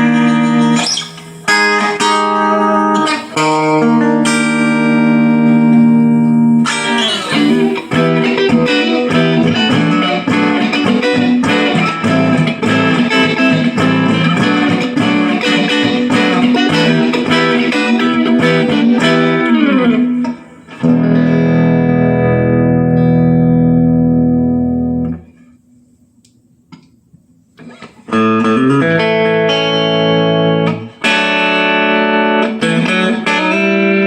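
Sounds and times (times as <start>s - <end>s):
electric guitar playing: 0.0s - 25.6s, 27.6s - 34.0s.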